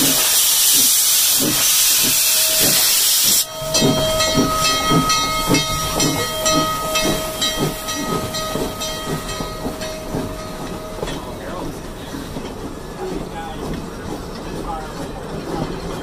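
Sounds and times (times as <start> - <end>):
steam hissing from cylinder cocks: 0.0 - 16.0
steam locomotive chuffing: 0.0 - 16.0.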